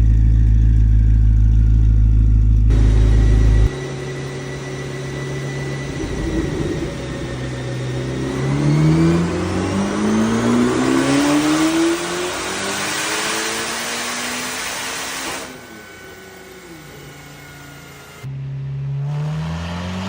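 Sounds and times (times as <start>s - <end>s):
sports car engine accelerating: 0.0s - 20.0s
turbo whine: 0.0s - 20.0s.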